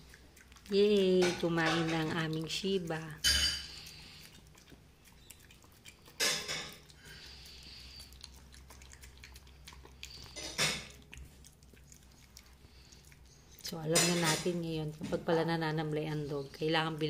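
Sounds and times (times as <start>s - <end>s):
dog chewing and licking: 0.0s - 17.0s.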